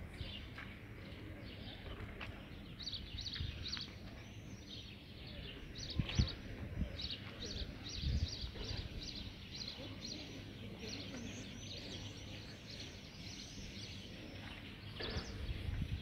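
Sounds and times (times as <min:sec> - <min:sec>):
low background noise: 0:00.0 - 0:16.0
small birds chirping: 0:00.0 - 0:16.0.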